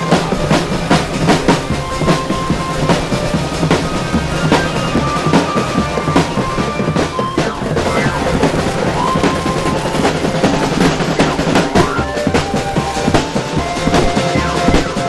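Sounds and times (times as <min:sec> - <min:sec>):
bass drum: 0:00.0 - 0:15.0
snare drum rolls: 0:00.0 - 0:15.0.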